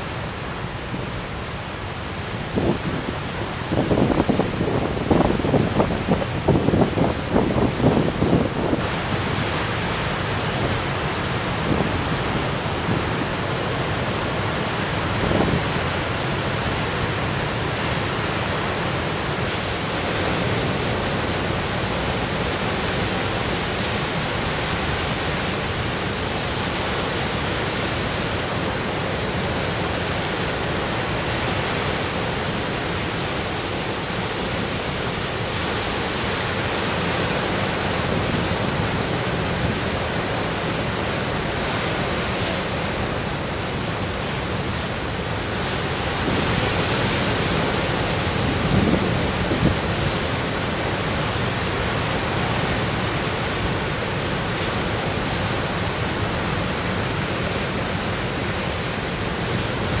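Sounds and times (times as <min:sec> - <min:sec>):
storm waves breaking: 0:00.0 - 1:00.0.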